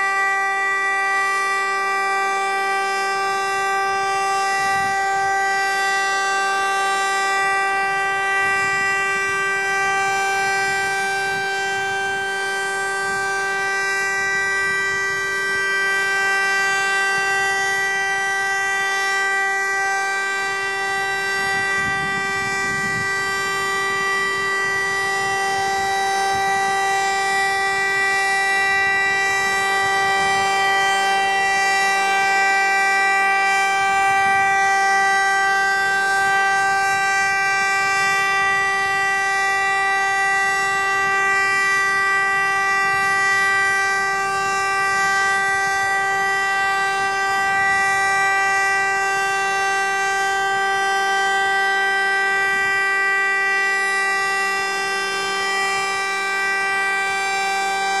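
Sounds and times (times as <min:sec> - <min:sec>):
siren steady tone: 0:00.0 - 0:58.0.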